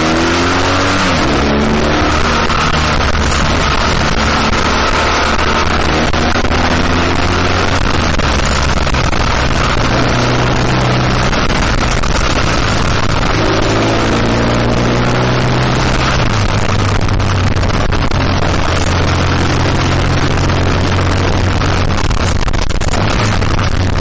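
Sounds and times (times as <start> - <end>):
motorcycle engine running: 0.0 - 24.0
wind rush over microphone: 0.0 - 24.0.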